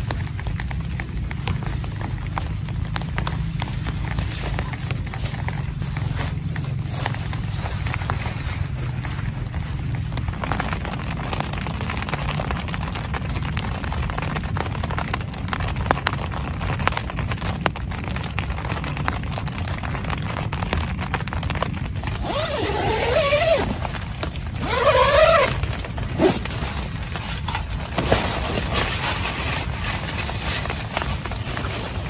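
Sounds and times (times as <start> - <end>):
heavy rain on a tent: 0.0 - 32.0.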